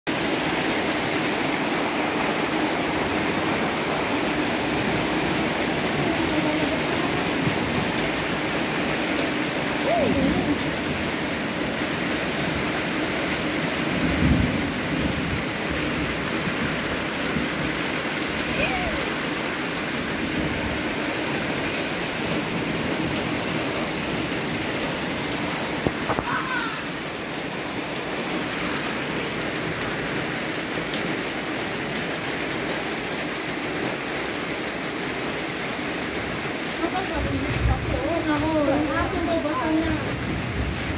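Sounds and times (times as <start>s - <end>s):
rain-like hiss: 0.1s - 40.9s.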